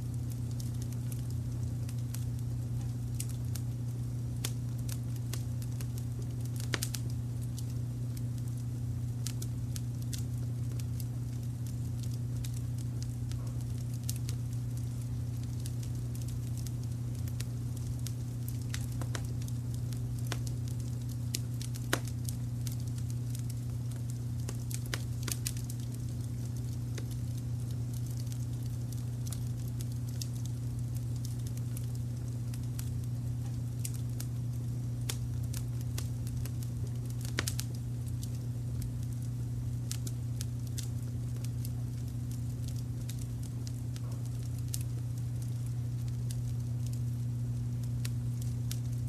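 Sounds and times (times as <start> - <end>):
low fire rumble: 0.0 - 49.0
wood fire crackling and popping: 0.0 - 49.0.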